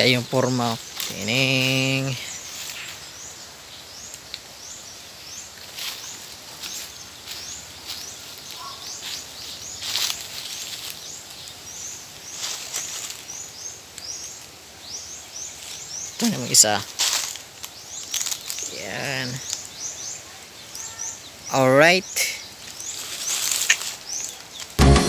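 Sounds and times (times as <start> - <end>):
bird chirping: 0.0 - 17.0, 17.6 - 24.8
dry leaves rustling: 0.0 - 24.8.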